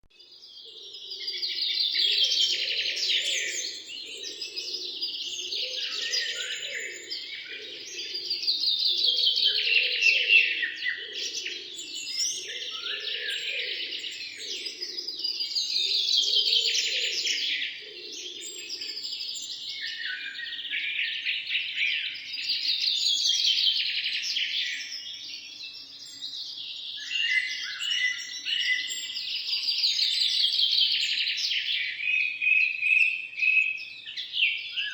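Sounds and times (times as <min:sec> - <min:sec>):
birds twittering chorus: 0:00.1 - 0:34.9.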